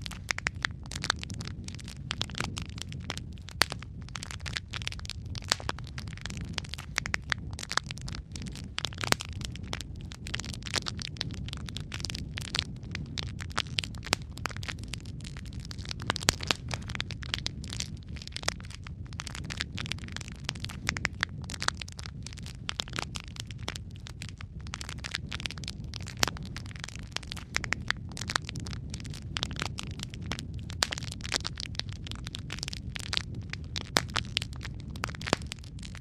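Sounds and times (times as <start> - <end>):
flames rumbling: 0.0 - 36.0
logs crackling and popping: 0.0 - 36.0.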